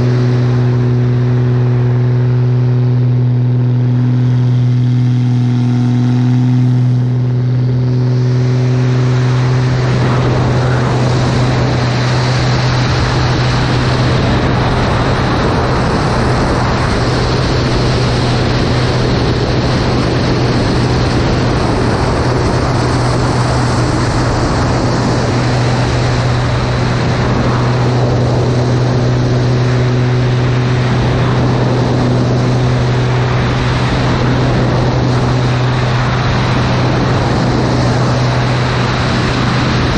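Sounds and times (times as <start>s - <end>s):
propeller plane engine drone: 0.0s - 39.9s
wind rush on microphone: 0.0s - 39.9s.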